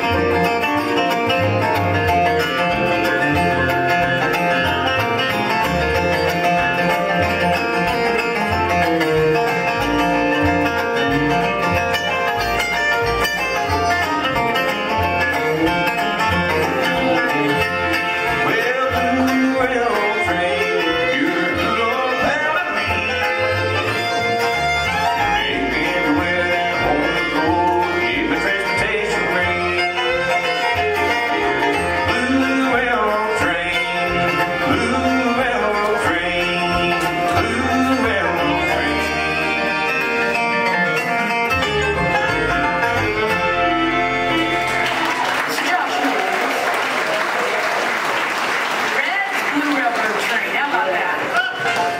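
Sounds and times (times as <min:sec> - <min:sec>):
bluegrass band playing: 0:00.0 - 0:51.9.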